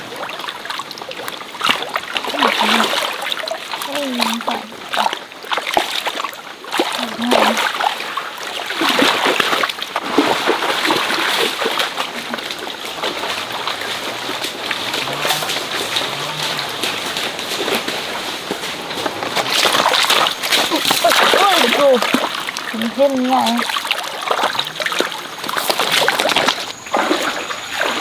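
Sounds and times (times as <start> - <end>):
rush of moving water: 0.0 - 28.0
water splashing: 0.0 - 28.0.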